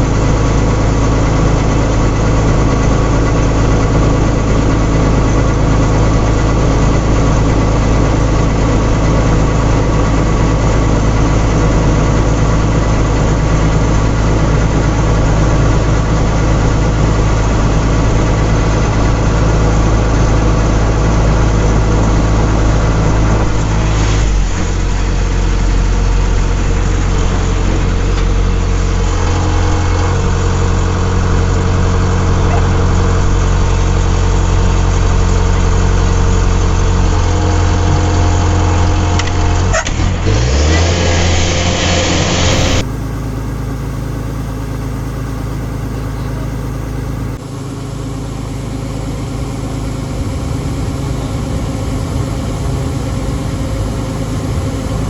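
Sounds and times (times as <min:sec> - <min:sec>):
harvester engine running: 0:00.0 - 0:55.0.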